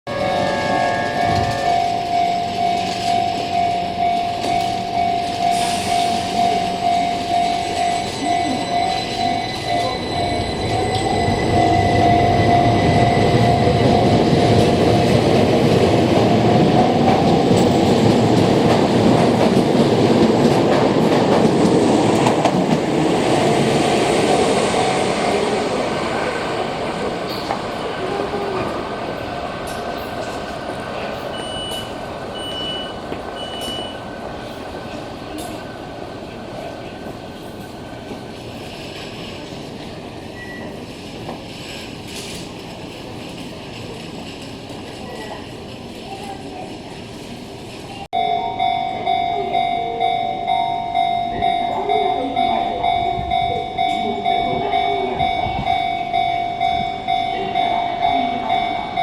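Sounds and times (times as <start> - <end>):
train running past: 0.1 - 59.0.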